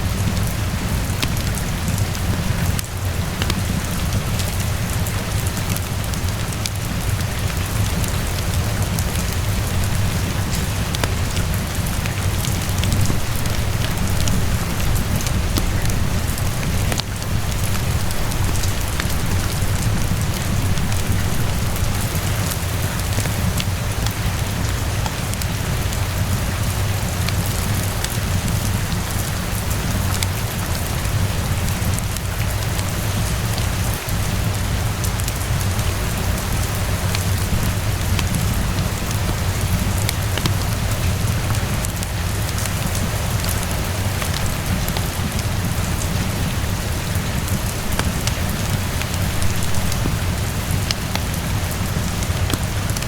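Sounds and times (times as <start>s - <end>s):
constant low rumble: 0.0s - 53.0s
steady rainfall: 0.0s - 53.0s
wood fire crackling: 0.0s - 53.0s.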